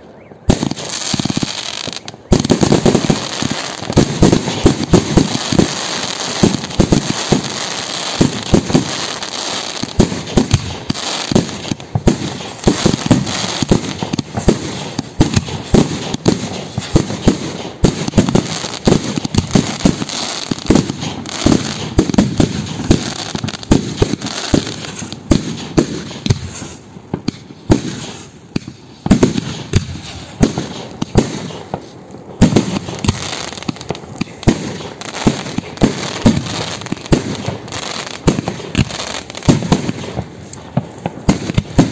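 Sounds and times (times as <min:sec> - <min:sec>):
fireworks bangs: 0:00.5 - 0:41.9
fireworks crackle: 0:00.5 - 0:41.9.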